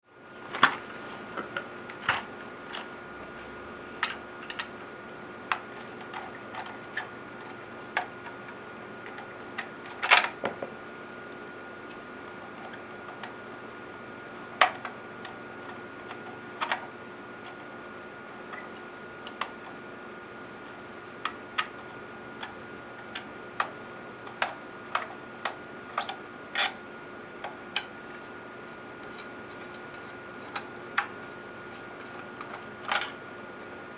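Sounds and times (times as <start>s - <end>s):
steady hum with constant tones: 0.0s - 33.9s.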